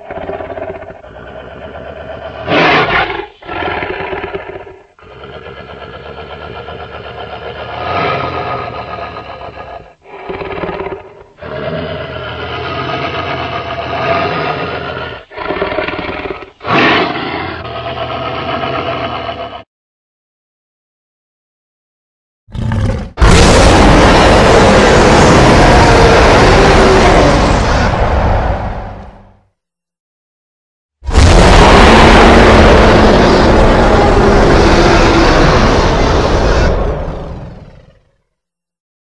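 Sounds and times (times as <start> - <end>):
dinosaur roars: 0.0 - 19.7, 22.5 - 29.3, 31.1 - 38.3.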